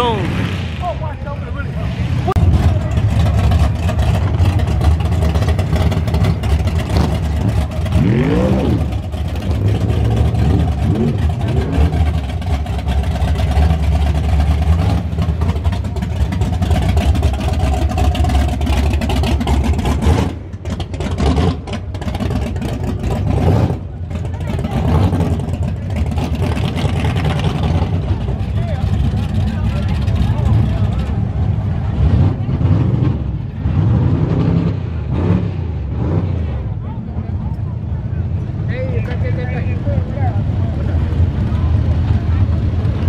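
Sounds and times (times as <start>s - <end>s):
car engine rumbling and revving: 0.0s - 43.0s.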